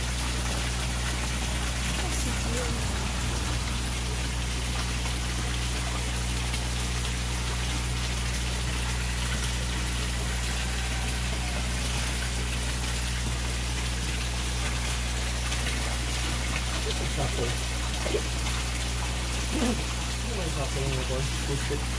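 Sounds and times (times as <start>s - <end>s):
pond pump humming: 0.0s - 21.9s
water rushing and splashing: 0.0s - 21.9s.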